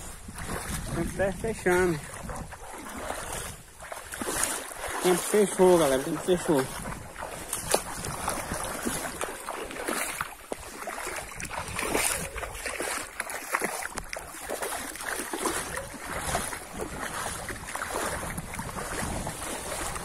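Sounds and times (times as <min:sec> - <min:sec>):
splashing steps in shallow water: 0:00.0 - 0:20.0.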